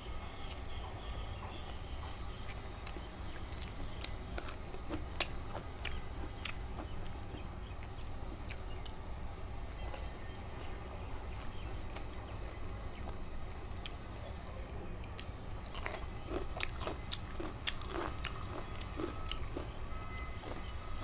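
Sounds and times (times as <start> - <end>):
steady low hum: 0.0 - 21.0
person chewing food: 0.3 - 21.0.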